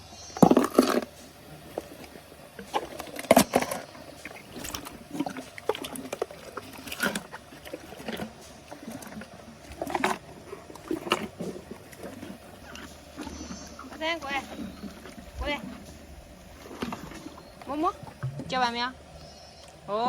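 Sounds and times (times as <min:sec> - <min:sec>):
hippo chewing wet crunches: 0:00.3 - 0:20.0.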